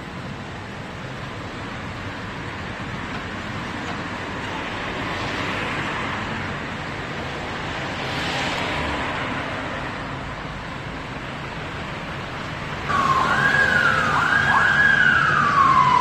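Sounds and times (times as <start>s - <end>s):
hiss of passing vehicles: 0.1s - 16.0s.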